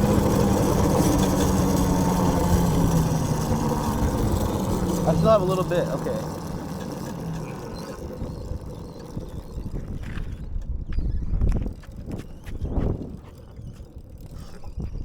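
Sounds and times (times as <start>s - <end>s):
road rumble: 0.0s - 15.0s
wind buffeting microphone: 0.0s - 15.0s.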